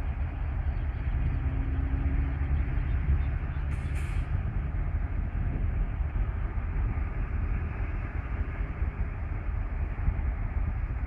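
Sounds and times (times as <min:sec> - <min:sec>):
diesel locomotive rumble: 0:00.0 - 0:11.0
road traffic: 0:00.0 - 0:11.0.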